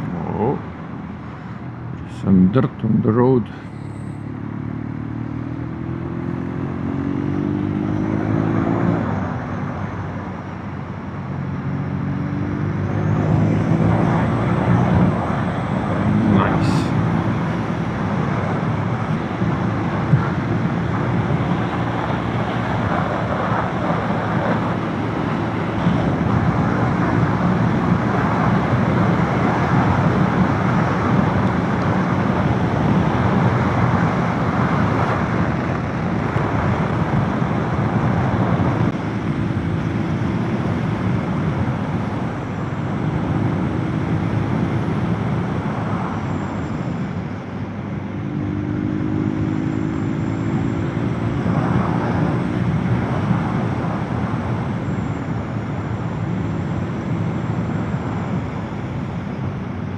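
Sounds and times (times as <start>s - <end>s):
motorcycle engine hum: 0.0s - 59.9s
wind and road noise: 0.0s - 59.9s.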